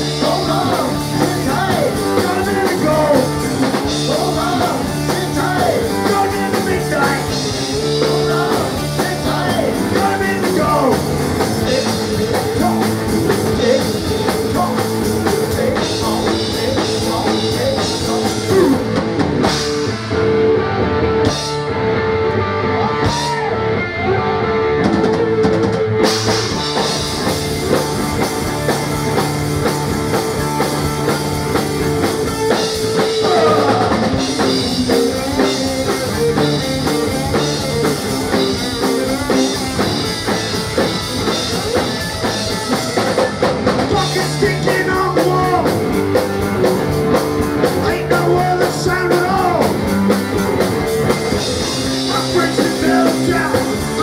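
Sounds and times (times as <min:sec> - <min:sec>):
drum kit: 0:00.0 - 0:21.8, 0:22.9 - 0:23.6, 0:24.7 - 0:54.0
bass guitar: 0:00.0 - 0:54.0
electric guitar: 0:00.0 - 0:54.0.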